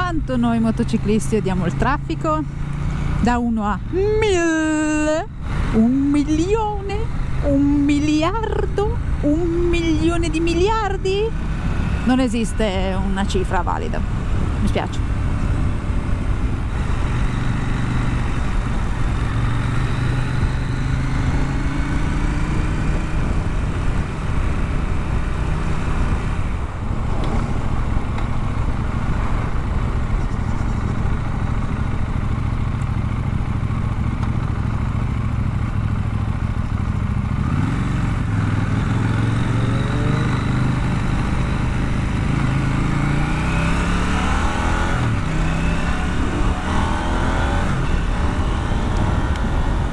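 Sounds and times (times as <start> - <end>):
motorcycle engine running: 0.0 - 49.9
road noise: 0.0 - 49.9
rushing wind: 0.0 - 49.9.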